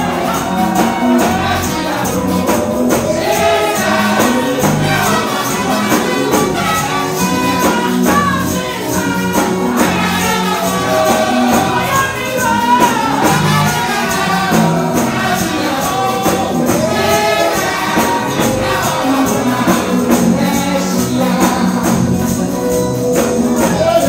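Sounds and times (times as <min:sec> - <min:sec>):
choir singing: 0:00.0 - 0:24.0
steady percussion beat: 0:00.0 - 0:24.0
man singing into a microphone: 0:03.1 - 0:22.3, 0:23.6 - 0:24.0.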